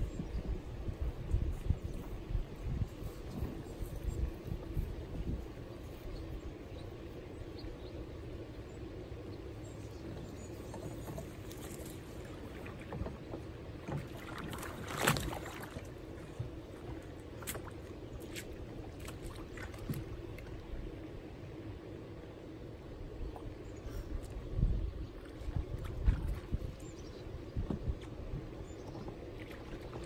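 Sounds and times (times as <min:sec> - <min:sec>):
water sounds: 0:00.0 - 0:30.0.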